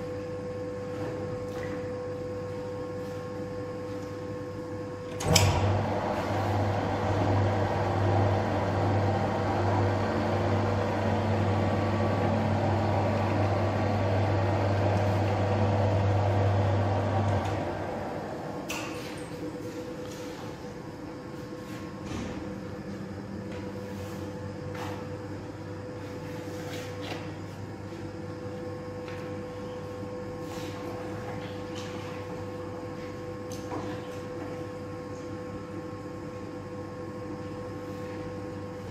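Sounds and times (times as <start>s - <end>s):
dough mixer humming: 0.0s - 38.9s.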